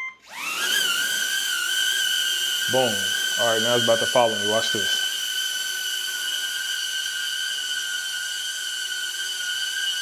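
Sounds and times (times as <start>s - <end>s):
drone propellers whining: 0.2s - 10.0s.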